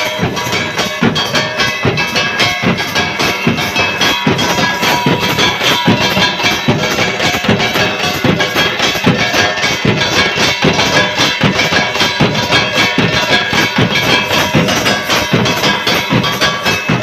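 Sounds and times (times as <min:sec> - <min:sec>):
large drums beaten with sticks: 0:00.0 - 0:17.0
metal hand cymbals ringing: 0:00.0 - 0:17.0.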